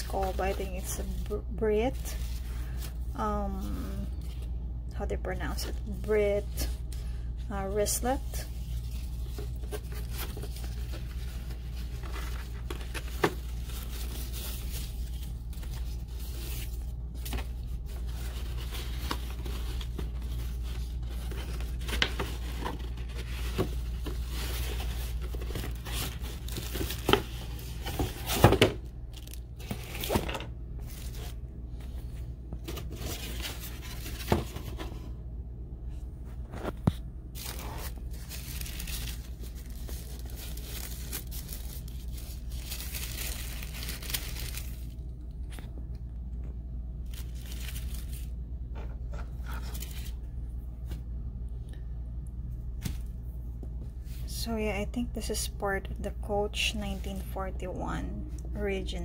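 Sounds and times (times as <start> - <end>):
paper packaging rustling and crinkling: 0.0 - 35.2, 36.3 - 45.8, 47.0 - 51.0.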